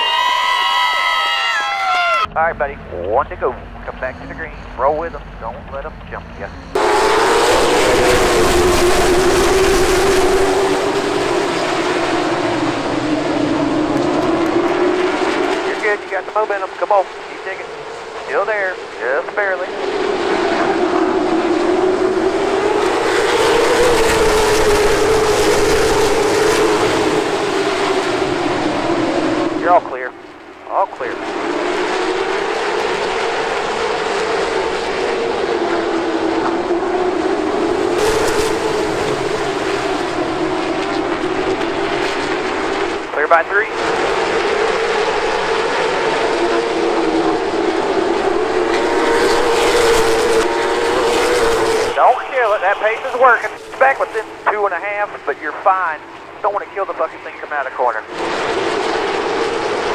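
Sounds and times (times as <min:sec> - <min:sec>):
race car engine at high revs: 0:00.1 - 0:59.9.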